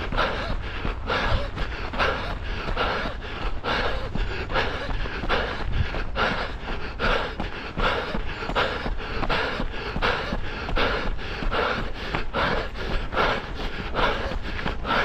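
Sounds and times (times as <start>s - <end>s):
runner breathing hard: 0.0s - 15.0s.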